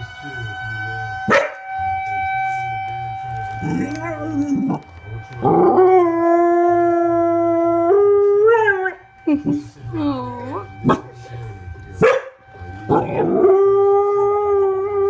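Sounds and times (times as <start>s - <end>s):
dog howling like a siren: 0.0s - 15.0s.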